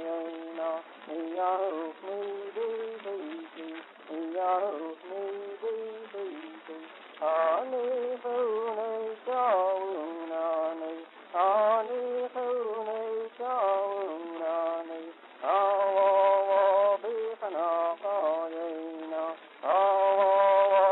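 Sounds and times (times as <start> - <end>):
person singing wordless phrases: 0.0 - 20.9.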